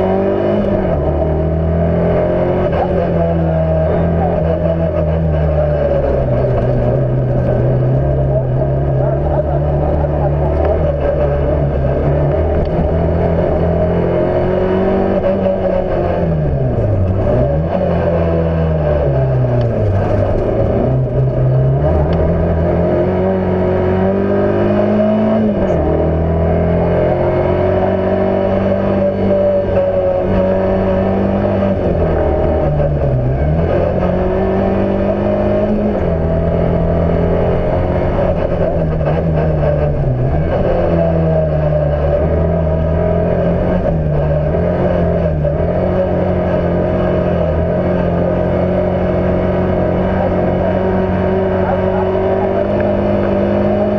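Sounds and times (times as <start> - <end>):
car engine revving at racing pace: 0.0 - 53.9.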